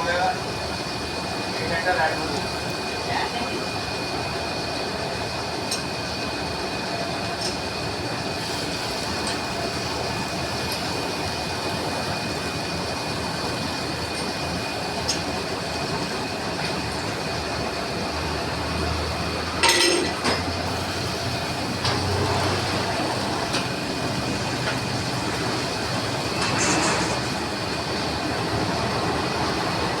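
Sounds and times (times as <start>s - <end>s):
lathe running with high whine: 0.0s - 30.0s.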